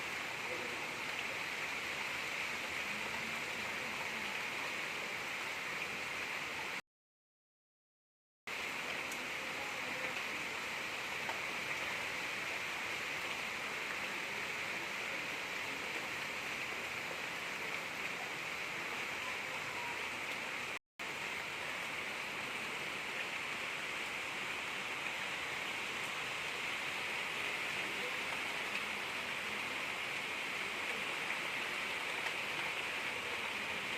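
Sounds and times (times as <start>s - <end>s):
gentle rain falling: 0.0s - 6.8s, 8.5s - 33.9s.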